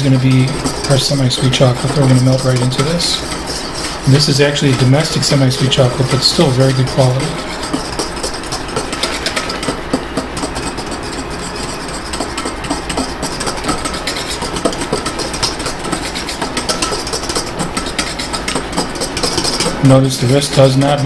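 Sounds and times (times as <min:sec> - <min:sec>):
whisk clattering in metal bowl: 0:00.0 - 0:21.0.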